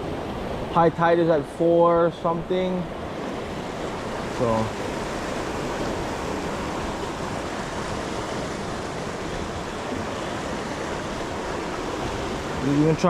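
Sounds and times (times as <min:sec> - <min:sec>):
ocean waves on shoreline: 0:00.0 - 0:13.0.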